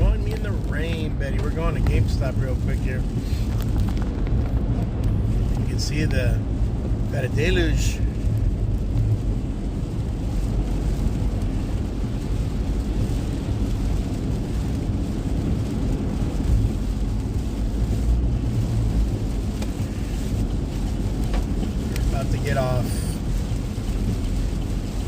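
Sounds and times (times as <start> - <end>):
heavy rain on car: 0.0 - 25.0
tyres rumbling on wet road: 0.0 - 25.0.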